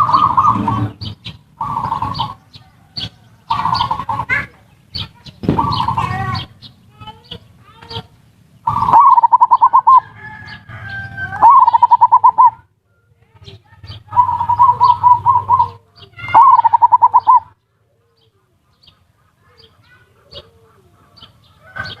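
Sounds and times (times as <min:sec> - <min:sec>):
dove cooing: 0:00.0 - 0:12.7, 0:13.3 - 0:22.0.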